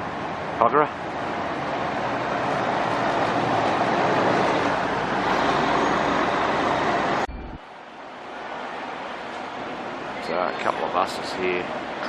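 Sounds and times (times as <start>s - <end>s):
heavy vehicle passing: 1.0s - 12.0s.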